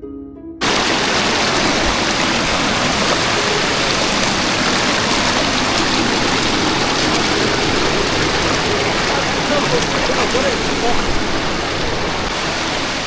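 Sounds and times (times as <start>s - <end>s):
flowing water rushing: 0.6s - 13.0s.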